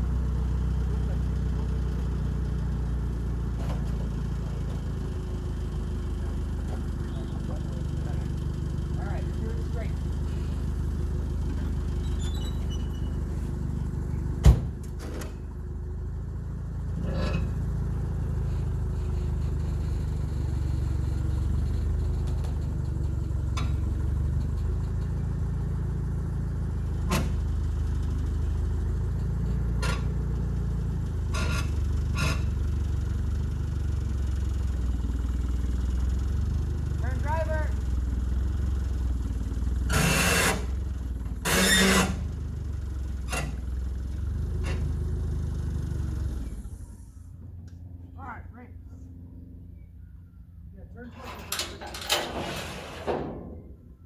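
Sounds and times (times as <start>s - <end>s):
vehicle engine idling: 0.0s - 52.1s.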